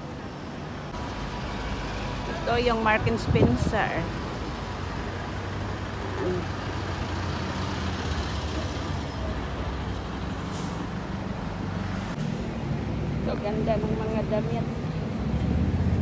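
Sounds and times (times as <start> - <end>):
diesel engine idling: 0.9 - 14.4.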